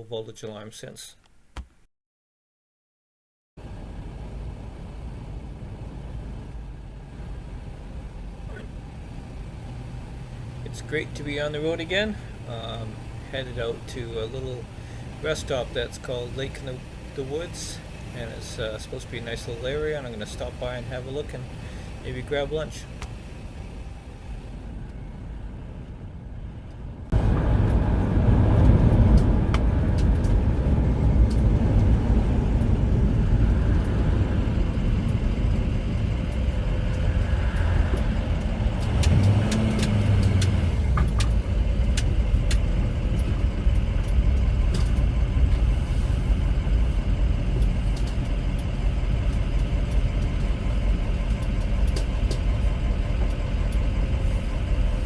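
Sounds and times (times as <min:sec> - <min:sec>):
vehicle engine and road noise: 0:03.6 - 0:55.0.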